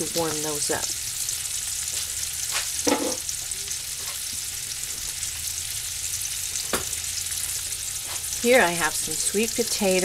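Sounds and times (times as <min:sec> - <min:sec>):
steaks sizzling in a skillet: 0:00.0 - 0:10.0.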